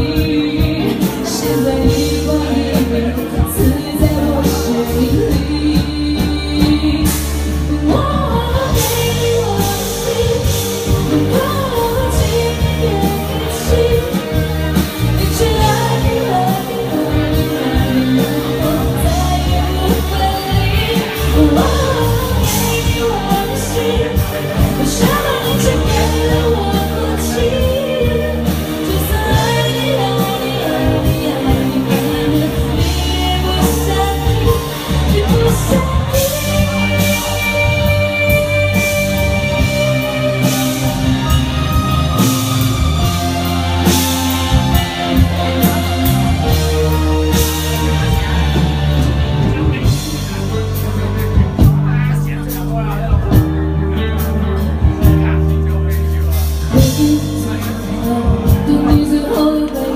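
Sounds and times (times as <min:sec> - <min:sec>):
band playing: 0:00.0 - 0:59.9
person singing pop song: 0:00.0 - 0:59.9.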